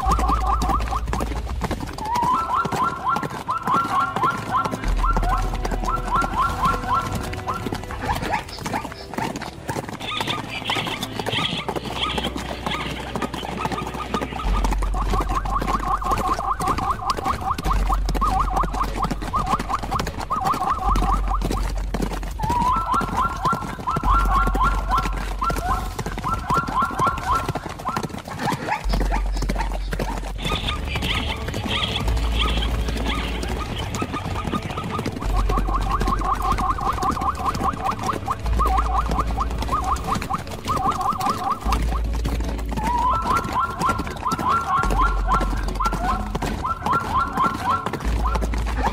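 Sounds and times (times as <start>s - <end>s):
high chattering animal calls: 0.0s - 42.2s, 42.8s - 48.9s
zebra barking: 0.0s - 42.2s, 42.8s - 48.9s
animal yelping: 0.0s - 48.9s.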